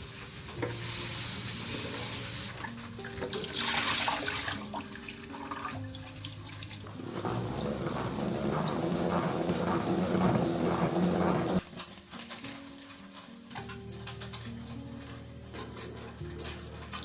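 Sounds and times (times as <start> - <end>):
soft music with held notes: 0.0 - 17.0
water running from a tap: 0.0 - 17.0.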